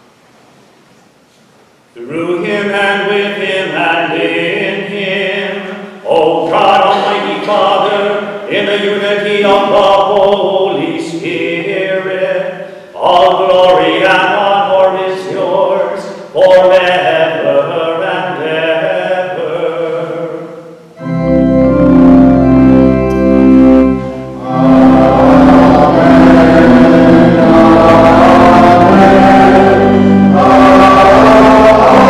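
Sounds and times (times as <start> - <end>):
voices singing: 2.0 - 21.1, 24.2 - 32.0
church organ chords: 2.0 - 32.0.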